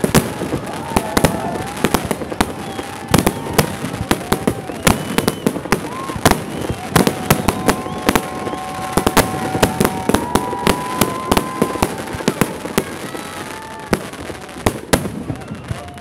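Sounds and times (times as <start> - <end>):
fireworks bangs and crackling pops: 0.0 - 16.0.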